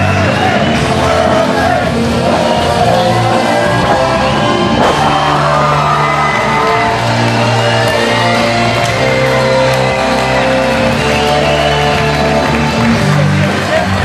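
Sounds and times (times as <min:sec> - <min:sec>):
crowd shouting and whooping: 0:00.0 - 0:14.0
loud rock music: 0:00.0 - 0:14.0.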